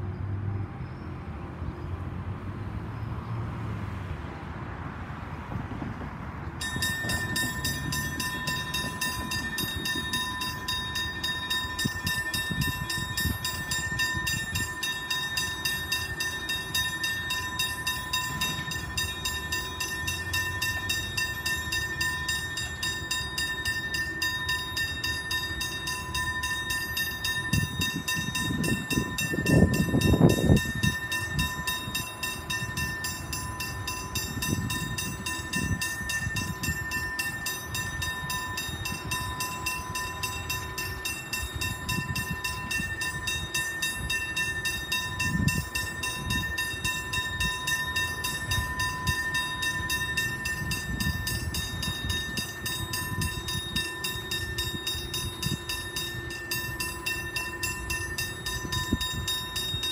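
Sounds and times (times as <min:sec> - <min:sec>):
level-crossing warning bells: 0:06.4 - 0:59.9.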